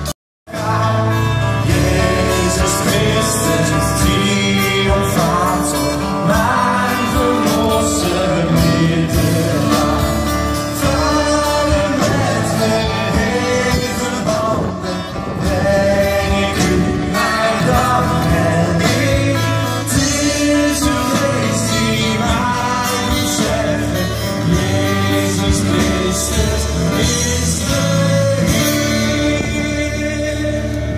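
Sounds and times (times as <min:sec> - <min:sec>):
worship band singing with guitars: 0:00.0 - 0:30.9.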